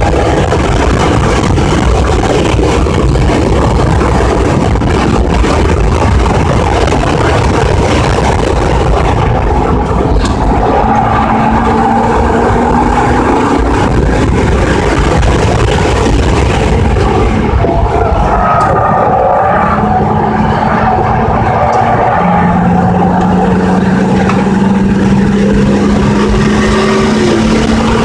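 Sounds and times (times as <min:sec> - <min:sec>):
car engine: 0:00.0 - 0:28.0
wind and road noise: 0:00.0 - 0:28.0.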